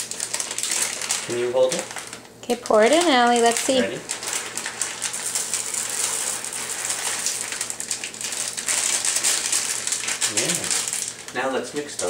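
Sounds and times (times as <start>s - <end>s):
chocolate chips pouring into bowl: 0.0s - 2.1s, 2.8s - 11.4s.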